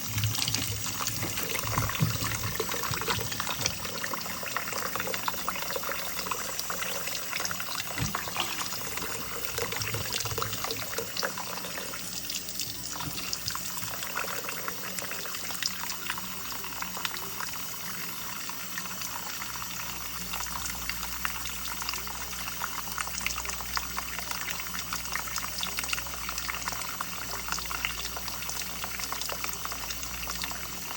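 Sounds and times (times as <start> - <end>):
liquid bubbling in cooking: 0.0 - 30.9.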